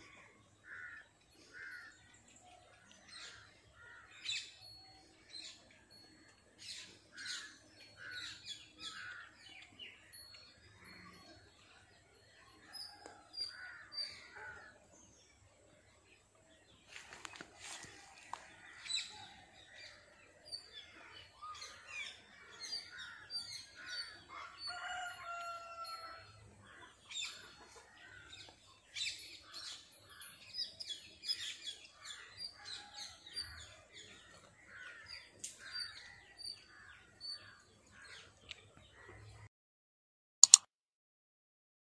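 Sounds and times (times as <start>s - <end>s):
birds chirping: 0.0s - 39.5s.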